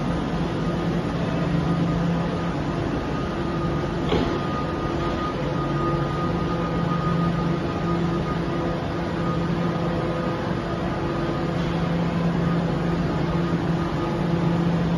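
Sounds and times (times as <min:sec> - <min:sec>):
electric train humming: 0:00.0 - 0:14.9.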